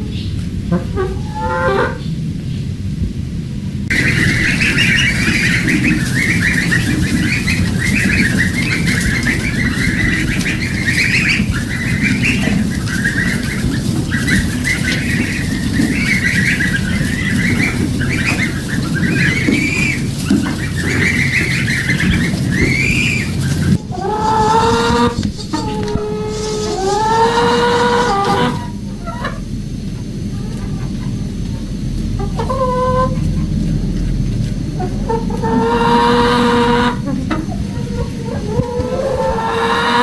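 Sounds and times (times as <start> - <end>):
poultry calling: 0.0 - 2.6, 3.9 - 40.0
low background noise: 0.0 - 40.0.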